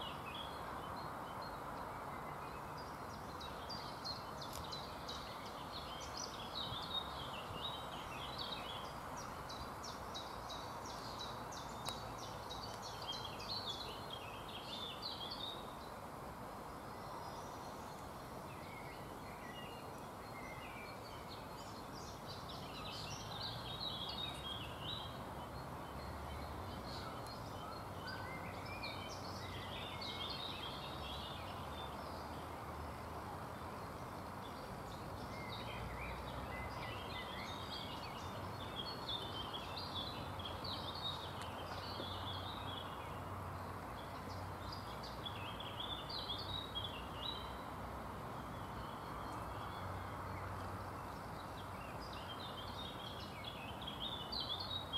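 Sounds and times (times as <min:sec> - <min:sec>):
songbirds chirping and singing: 0:00.0 - 0:47.7, 0:48.4 - 0:54.9
outdoor background hiss: 0:00.0 - 0:54.9.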